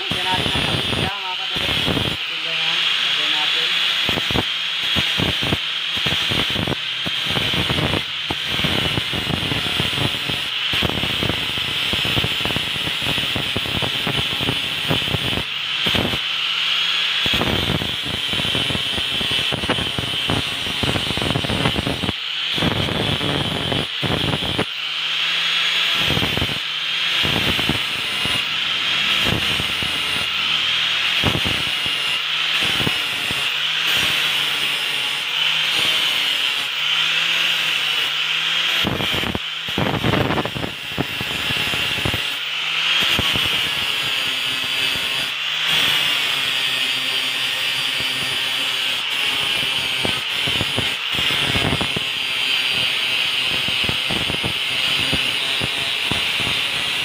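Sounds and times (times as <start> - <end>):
angle grinder grinding steel: 0.0 - 57.0.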